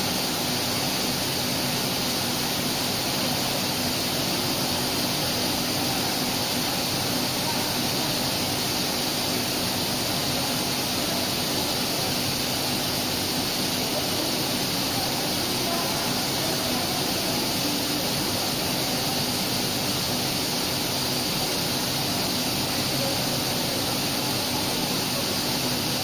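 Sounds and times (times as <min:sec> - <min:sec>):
grinding machine hiss: 0:00.0 - 0:26.0.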